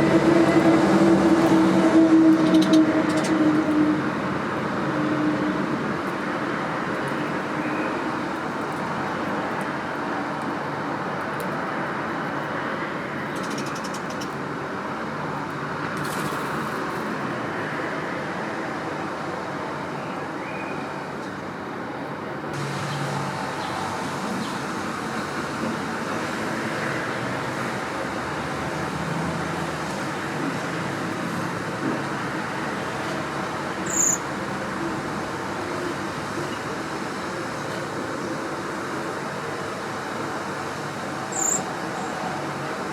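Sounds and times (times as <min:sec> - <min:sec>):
road traffic rumble: 0:00.0 - 0:42.9.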